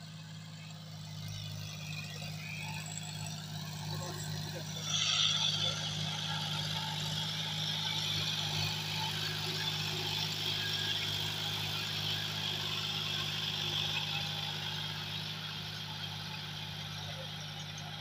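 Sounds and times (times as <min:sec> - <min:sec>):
tractor diesel engine: 0:00.0 - 0:18.0.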